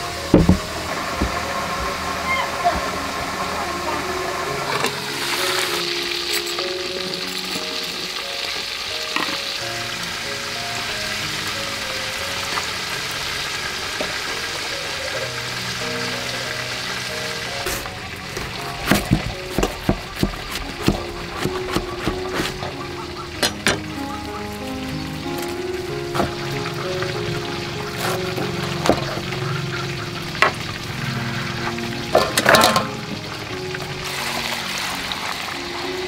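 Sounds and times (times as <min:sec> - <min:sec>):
background music: 0:00.0 - 0:36.0
food sizzling in a pan: 0:00.0 - 0:36.0.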